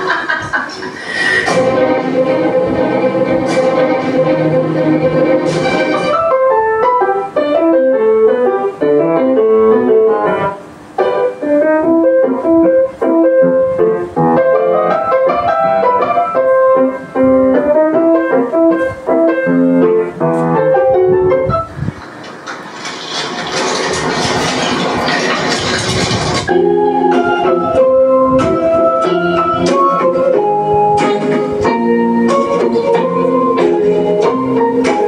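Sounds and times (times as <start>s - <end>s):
piano melody: 1.2s - 35.0s.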